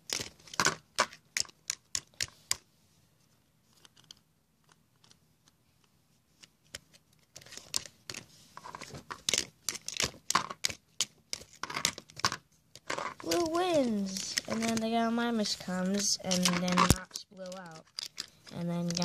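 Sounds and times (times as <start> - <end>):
plastic toys clicking and clattering: 0.0 - 2.6, 3.7 - 5.6, 6.4 - 19.0.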